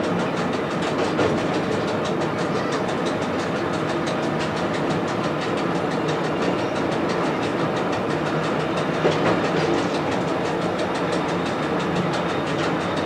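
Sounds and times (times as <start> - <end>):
railcar engine and wheels rumbling: 0.0 - 13.0.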